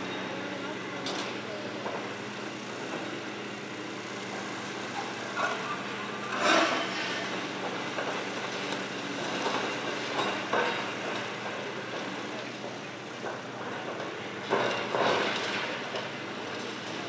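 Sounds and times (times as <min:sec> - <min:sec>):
heavy machinery running: 0:00.0 - 0:17.0.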